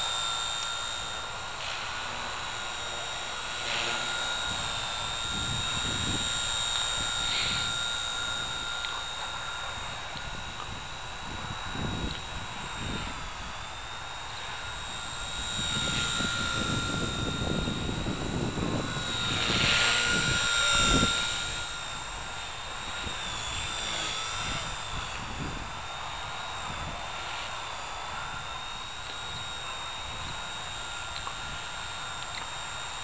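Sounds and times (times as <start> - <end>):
rc helicopter rotor whine: 0.0 - 33.0
wind rumbling on microphone: 3.9 - 32.4.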